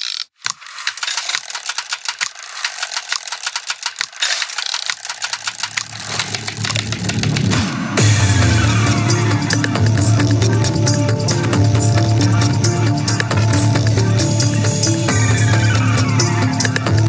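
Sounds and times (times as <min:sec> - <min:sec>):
rapid mechanical clicking music: 0:00.0 - 0:17.0.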